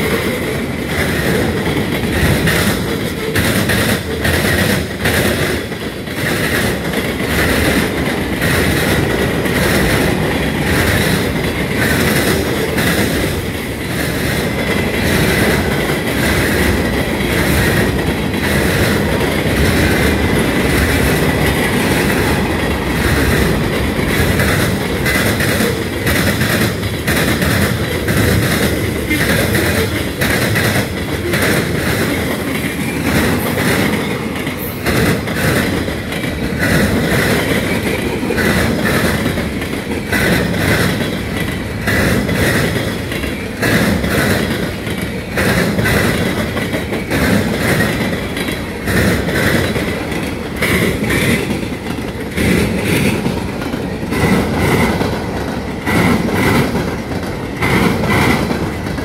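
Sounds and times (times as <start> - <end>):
steel wheels rumbling on rail: 0.0 - 59.0
wheels clicking over rail joints: 0.0 - 59.0.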